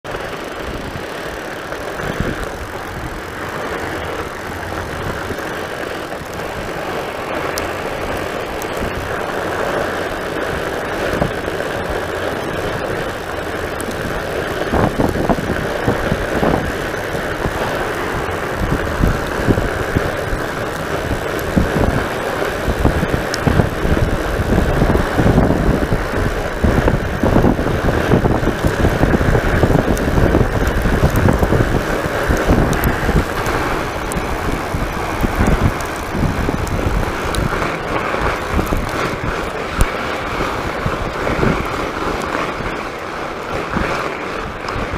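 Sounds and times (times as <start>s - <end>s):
bike rumbling and knocking: 0.0s - 44.9s
wind buffeting microphone: 0.1s - 44.9s.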